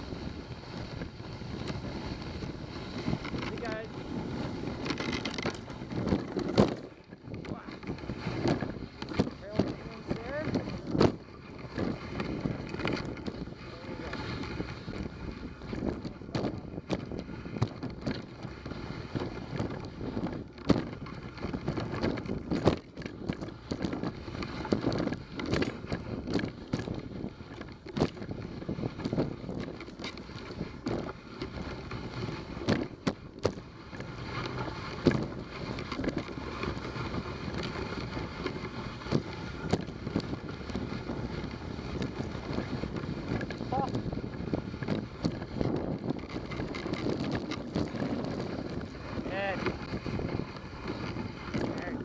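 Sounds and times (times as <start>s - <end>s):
sled knocking and rattling: 0.0s - 52.0s
sled runners scraping on snow: 0.0s - 52.0s.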